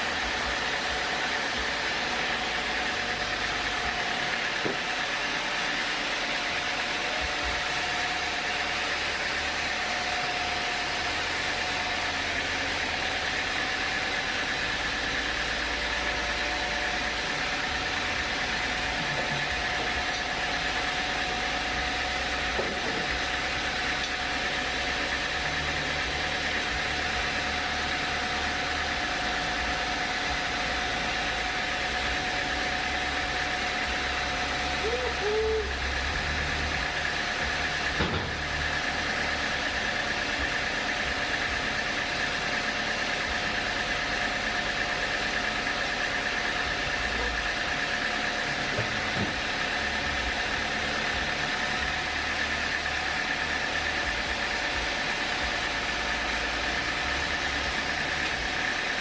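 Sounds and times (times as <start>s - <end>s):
high machine whine: 0.0s - 59.0s
sawmill machinery drone: 0.0s - 59.0s.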